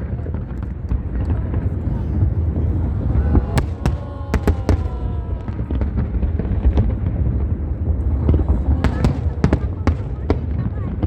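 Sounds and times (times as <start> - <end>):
deep rumble of firework bursts: 0.0 - 11.0
firework cracks: 0.0 - 11.0.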